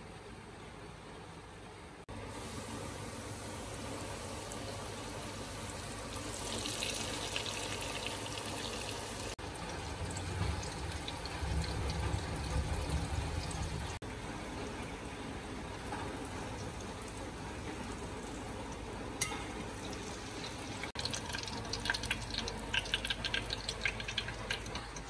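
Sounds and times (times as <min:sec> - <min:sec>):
food deep-frying in oil: 0:02.1 - 0:25.0.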